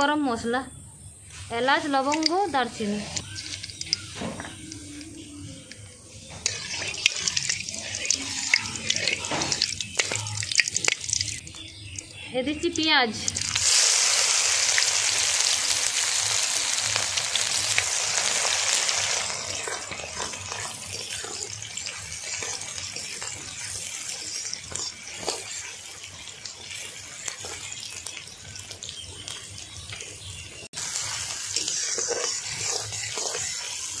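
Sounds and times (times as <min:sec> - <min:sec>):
onions sizzling in hot oil: 0:01.5 - 0:34.0.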